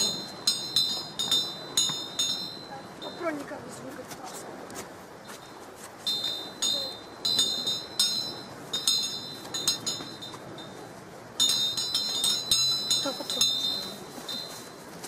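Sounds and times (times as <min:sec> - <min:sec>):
high bell-like chimes: 0:00.0 - 0:03.4, 0:05.4 - 0:15.0.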